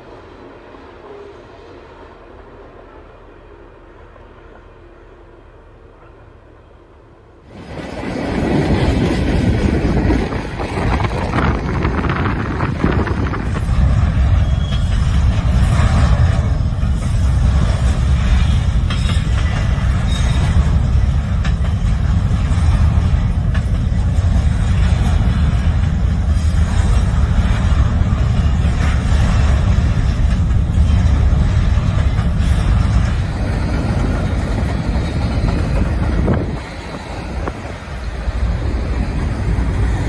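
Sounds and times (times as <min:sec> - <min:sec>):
steel wheels rumbling on rails: 0:00.0 - 0:40.0
wheels clicking over rail joints: 0:07.5 - 0:40.0.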